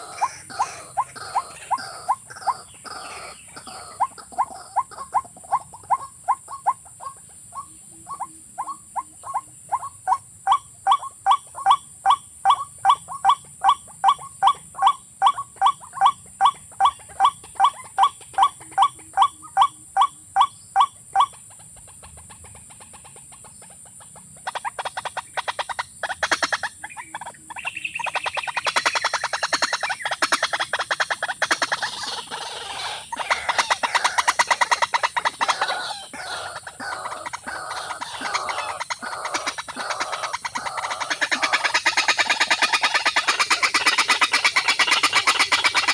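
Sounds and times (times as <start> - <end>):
water bird hollow calls: 0.0 - 21.3, 24.5 - 45.9.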